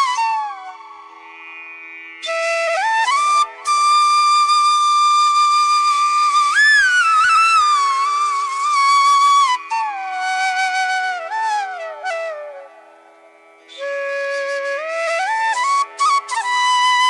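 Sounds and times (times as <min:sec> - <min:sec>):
solo flute melody: 0:00.0 - 0:01.5, 0:02.2 - 0:17.0.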